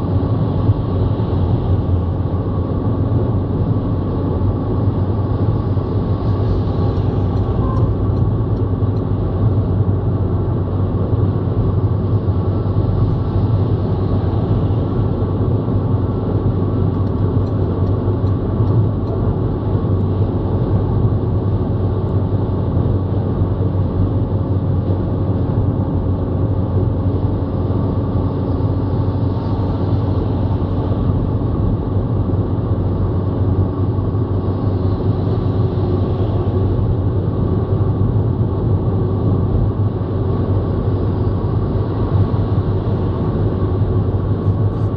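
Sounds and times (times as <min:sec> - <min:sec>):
tyres and engine rumbling: 0:00.0 - 0:44.9.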